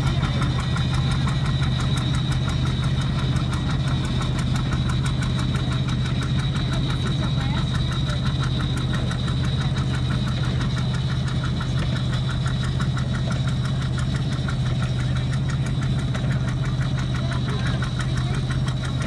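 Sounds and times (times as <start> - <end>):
fast even ticking: 0.0 - 19.0
tractor engine running: 0.0 - 19.0.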